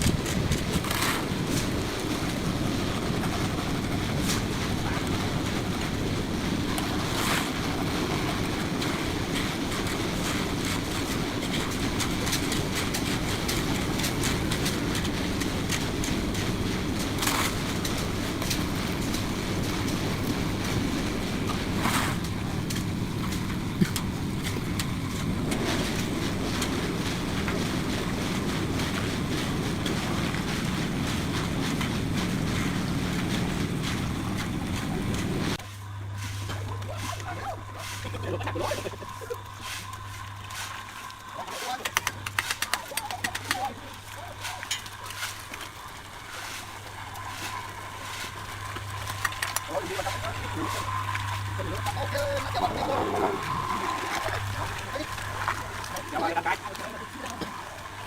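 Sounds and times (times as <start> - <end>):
concrete mixer rumbling: 0.0 - 58.0.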